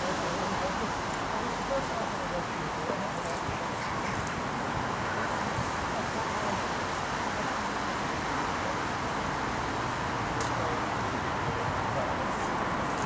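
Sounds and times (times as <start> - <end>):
outdoor background hiss and rumble: 0.0 - 13.0.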